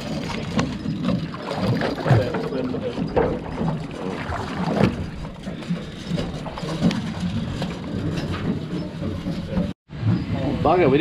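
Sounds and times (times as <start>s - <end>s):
water sloshing against hull: 0.0s - 10.3s.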